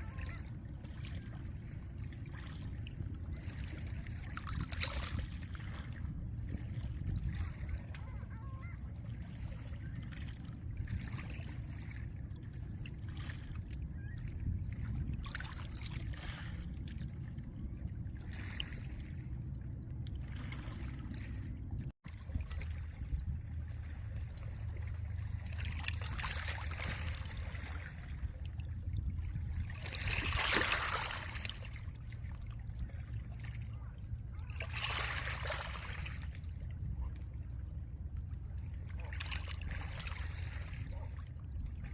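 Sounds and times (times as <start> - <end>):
low wind rumble: 0.0 - 41.9.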